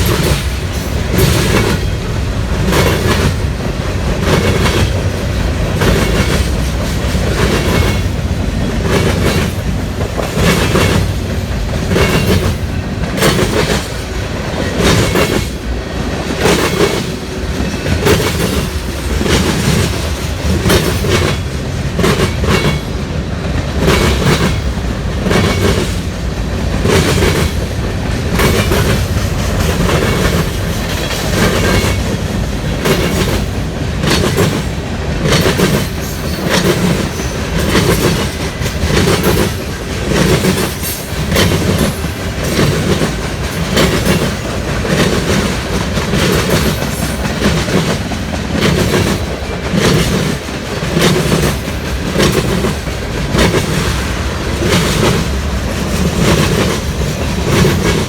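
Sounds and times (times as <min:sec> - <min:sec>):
freight train rumbling by: 0:00.0 - 0:58.0
wheels clacking over rail joints: 0:00.0 - 0:58.0.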